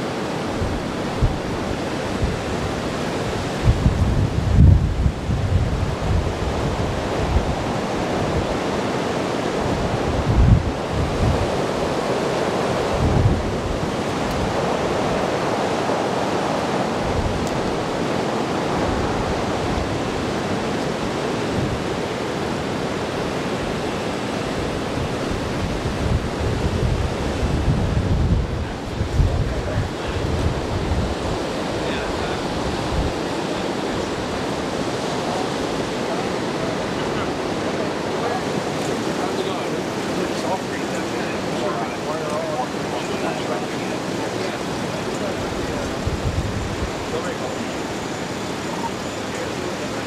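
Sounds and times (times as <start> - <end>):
storm wind rushing: 0.0 - 50.0
waves washing: 0.0 - 50.0
wind buffeting microphone: 0.0 - 50.0.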